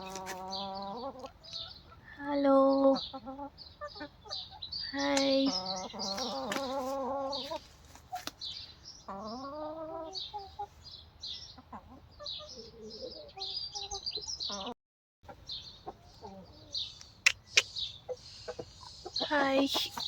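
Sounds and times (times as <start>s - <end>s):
hens clucking: 0.0s - 2.1s, 2.8s - 8.4s, 9.0s - 10.8s, 11.5s - 20.0s.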